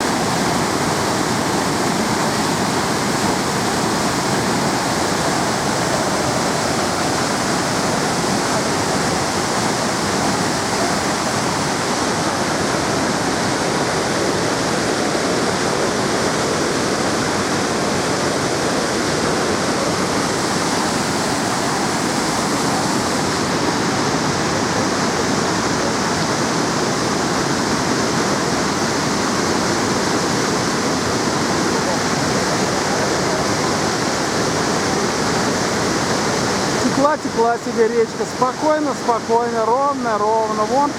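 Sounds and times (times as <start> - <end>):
large waterfall rushing: 0.0 - 40.9.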